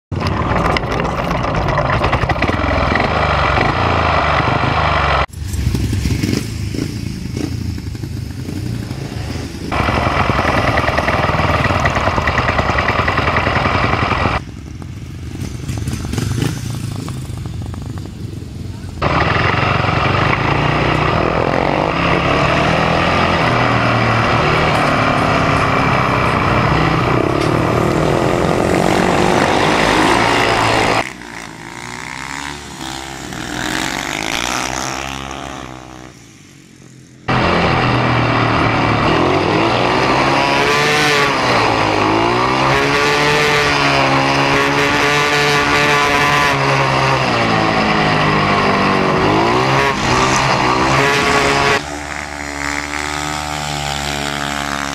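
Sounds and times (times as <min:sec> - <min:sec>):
motorcycle engine at racing throttle: 0:00.1 - 0:54.9
motorcycles lapping and passing by: 0:00.1 - 0:54.9.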